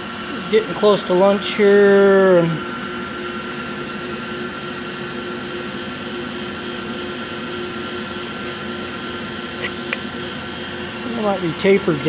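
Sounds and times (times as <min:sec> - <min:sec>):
motor or fan humming: 0:00.0 - 0:12.0.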